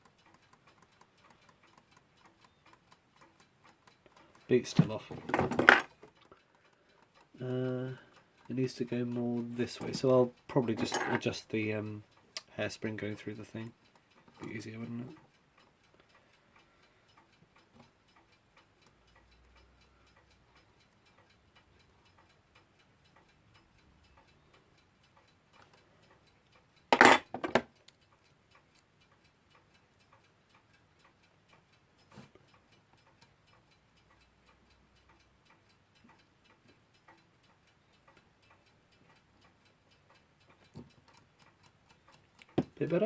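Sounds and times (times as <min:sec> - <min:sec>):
faint clock ticking: 0:00.0 - 0:43.0.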